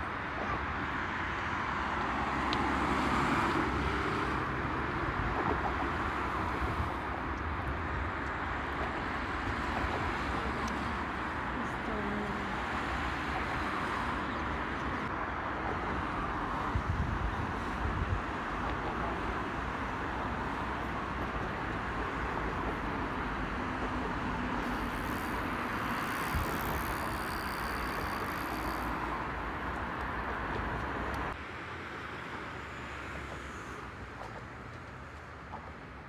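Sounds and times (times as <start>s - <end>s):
passing cars hiss and rumble: 0.0s - 36.0s.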